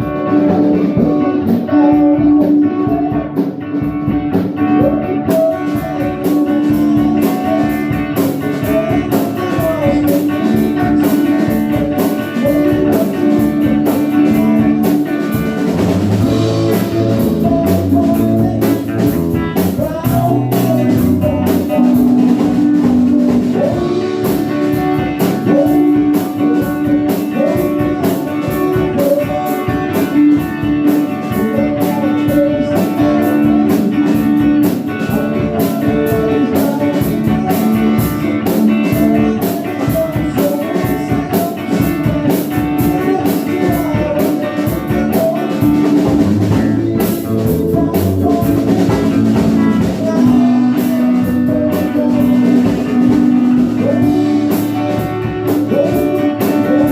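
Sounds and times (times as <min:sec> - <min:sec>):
drum kit beat: 0:00.0 - 0:56.9
guitar: 0:00.0 - 0:56.9.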